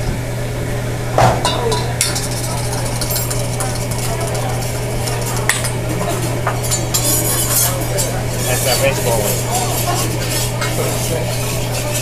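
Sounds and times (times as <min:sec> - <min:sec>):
steady low hum: 0:00.0 - 0:12.0
metal utensil scraping steel bowl: 0:01.7 - 0:12.0.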